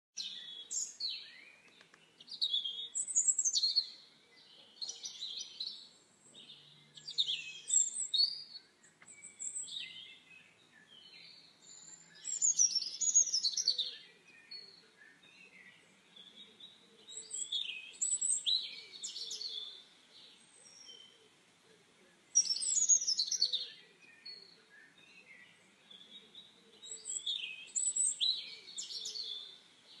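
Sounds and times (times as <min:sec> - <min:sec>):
songbirds chirping and trilling: 0:00.2 - 0:30.0.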